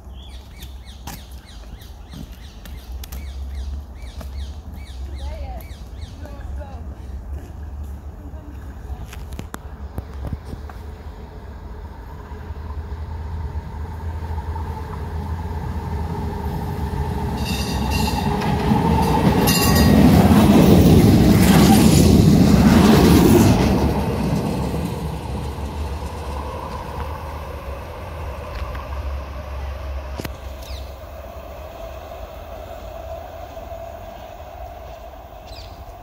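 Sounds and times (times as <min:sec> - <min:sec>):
tram passing on tracks: 0:00.0 - 0:36.0.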